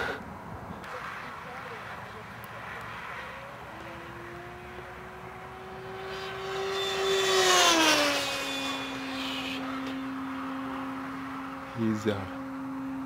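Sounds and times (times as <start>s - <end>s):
model airplane propeller whine: 0.9s - 13.0s.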